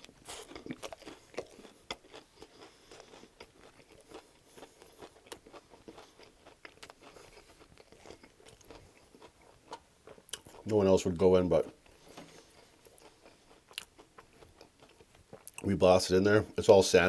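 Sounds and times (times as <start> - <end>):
chewing with wet mouth clicks: 0.0 - 10.7, 11.6 - 15.7.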